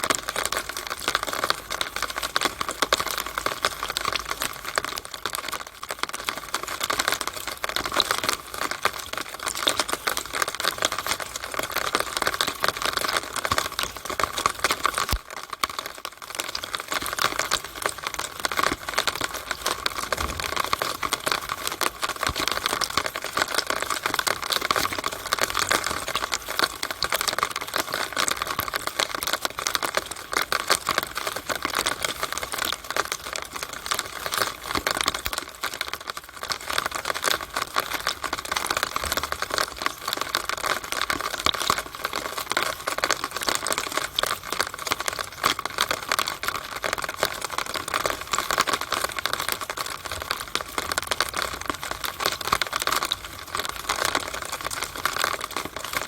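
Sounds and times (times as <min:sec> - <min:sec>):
rainwater dripping in downspout: 0:00.0 - 0:56.0.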